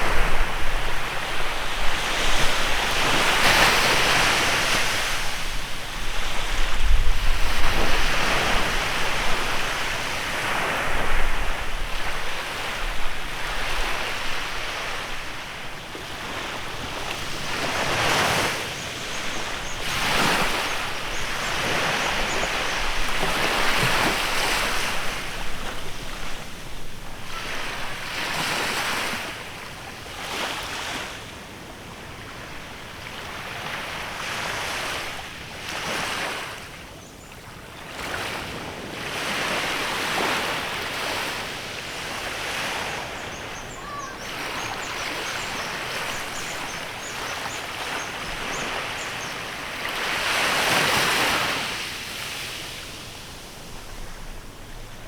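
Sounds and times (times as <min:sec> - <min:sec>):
small waves washing onto beach: 0:00.0 - 0:36.9, 0:37.5 - 0:55.0.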